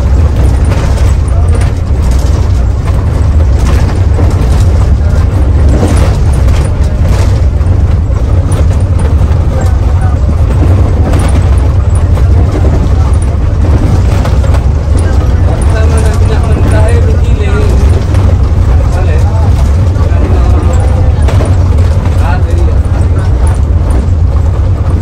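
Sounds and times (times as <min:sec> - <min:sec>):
bus engine drone: 0:00.0 - 0:25.0
knocks and rattles: 0:00.0 - 0:25.0
road noise: 0:00.0 - 0:25.0.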